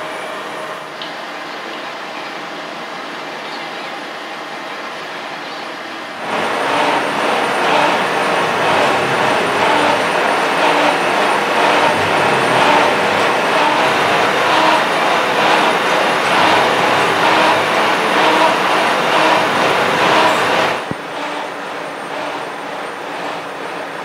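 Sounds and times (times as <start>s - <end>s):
heavy machinery running: 0.0s - 24.0s.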